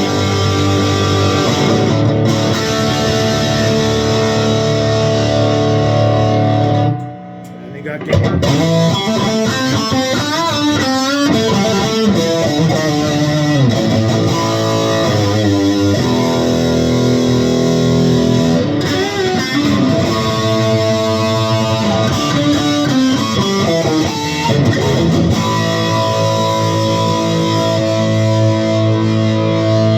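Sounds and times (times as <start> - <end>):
electric guitar notes and chords: 0.0 - 29.9.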